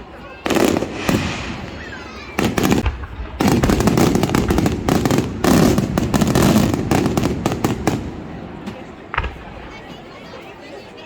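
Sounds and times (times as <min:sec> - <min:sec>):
fireworks crackling bangs: 0:00.3 - 0:10.0.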